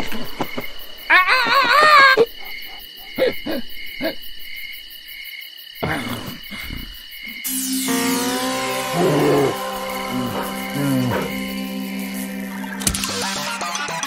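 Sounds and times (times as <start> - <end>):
crickets chirping: 0.0 - 13.5.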